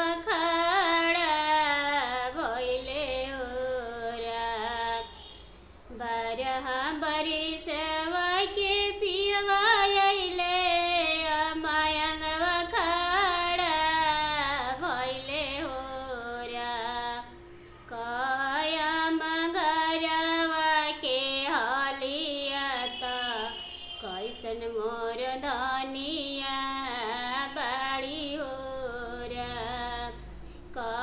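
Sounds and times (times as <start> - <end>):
woman singing unaccompanied: 0.0 - 31.0.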